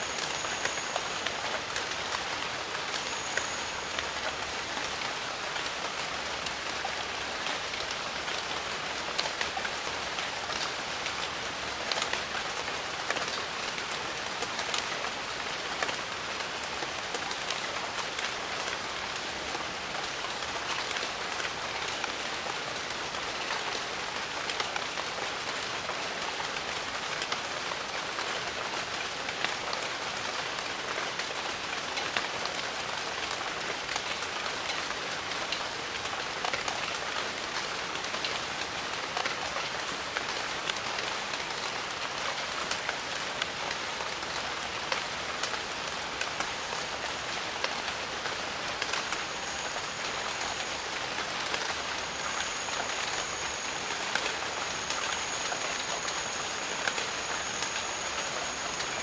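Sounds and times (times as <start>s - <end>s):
rain falling: 0.0s - 59.0s
raindrops pattering on leaves: 0.0s - 59.0s.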